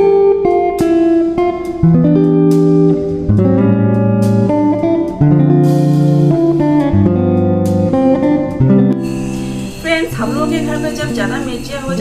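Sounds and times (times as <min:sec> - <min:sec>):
guitar background music: 0:00.0 - 0:12.0.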